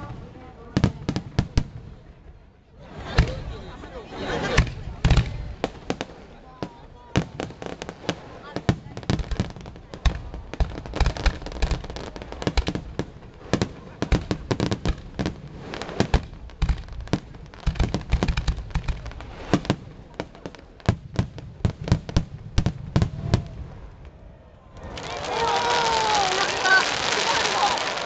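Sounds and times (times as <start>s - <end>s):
fireworks bursting: 2.8s - 24.2s, 24.8s - 28.0s.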